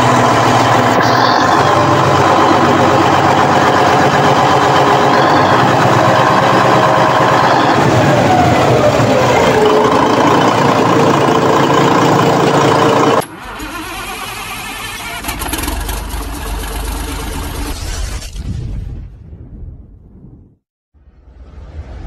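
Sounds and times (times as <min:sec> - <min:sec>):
diesel engine running with whine: 0:00.0 - 0:17.8.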